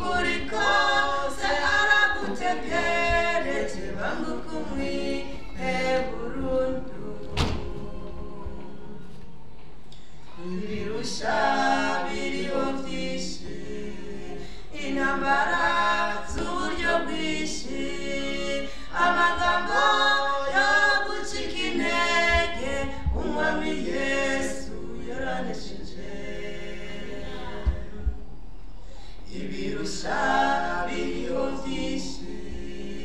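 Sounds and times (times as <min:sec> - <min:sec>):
people singing a cappella: 0:00.0 - 0:33.0.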